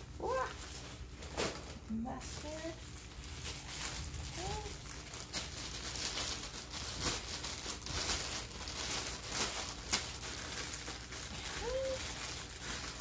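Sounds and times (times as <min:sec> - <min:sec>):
plastic bag crinkling: 0:00.2 - 0:13.0.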